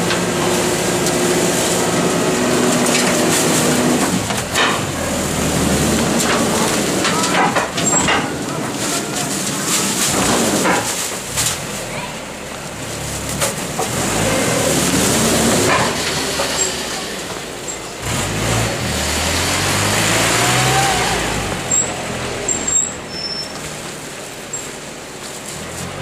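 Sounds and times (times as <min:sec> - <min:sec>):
garbage truck engine revving: 0:00.0 - 0:26.0.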